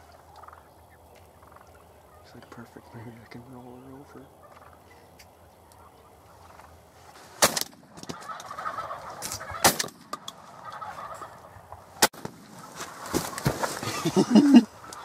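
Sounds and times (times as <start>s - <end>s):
turkey gobbling: 0.0s - 3.3s, 4.0s - 6.9s, 7.9s - 15.0s.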